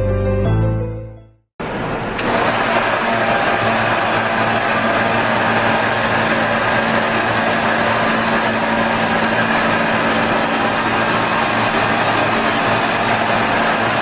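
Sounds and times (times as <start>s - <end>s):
machine hum: 1.6s - 14.0s.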